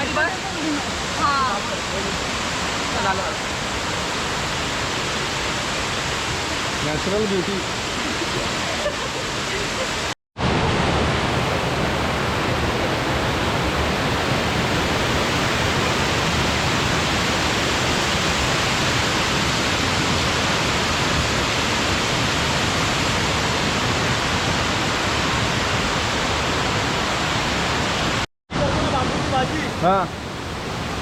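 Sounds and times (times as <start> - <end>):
waterfall rushing and splashing: 0.0 - 31.0.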